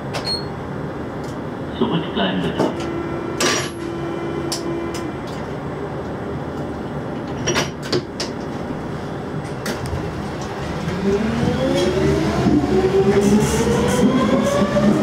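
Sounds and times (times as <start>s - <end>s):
train rumble in tunnel: 0.0s - 15.0s.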